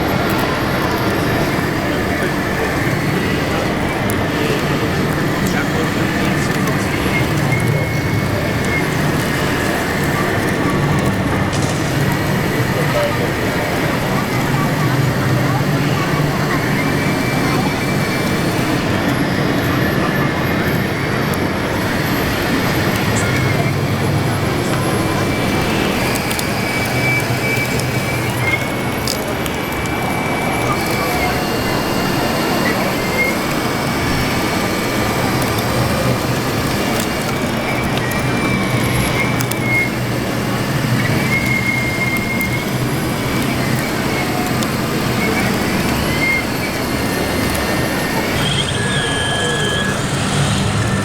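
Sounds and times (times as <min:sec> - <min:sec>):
busy hall din: 0:00.0 - 0:51.0
high electric motor whine: 0:00.0 - 0:51.0
model machines running: 0:00.0 - 0:51.0.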